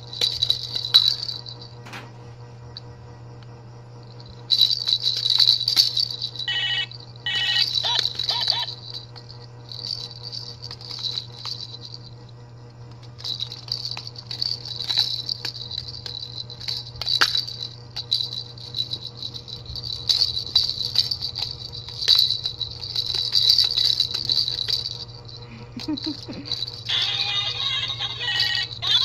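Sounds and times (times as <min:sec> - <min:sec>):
plastic rattle toy shaken: 0:00.0 - 0:01.7, 0:04.2 - 0:12.1, 0:12.9 - 0:29.0.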